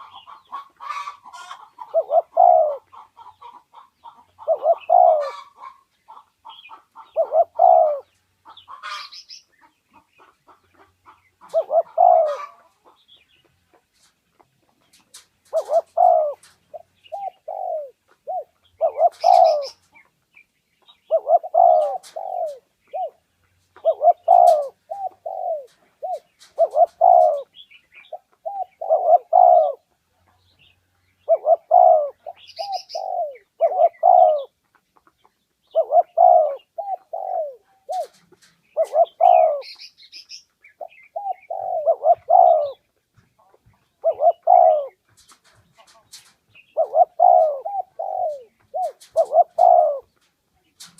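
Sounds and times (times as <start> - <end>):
dove cooing: 0.0 - 9.4, 10.0 - 13.0, 14.0 - 20.1, 20.8 - 30.0, 31.2 - 34.6, 35.6 - 50.9.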